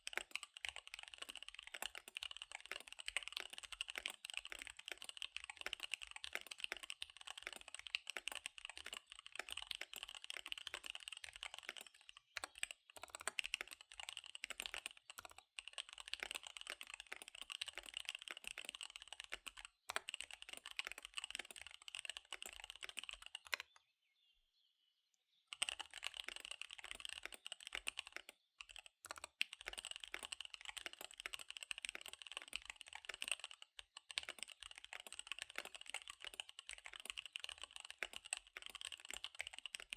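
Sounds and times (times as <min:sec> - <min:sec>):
mechanical keyboard typing: 0:00.0 - 0:23.7, 0:25.5 - 0:39.9.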